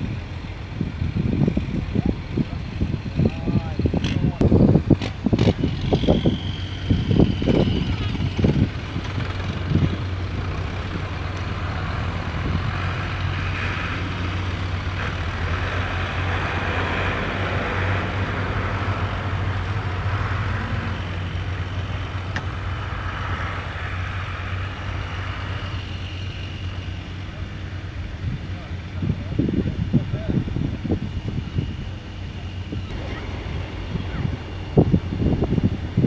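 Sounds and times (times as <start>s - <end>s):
tractor engines running: 0.0s - 36.0s.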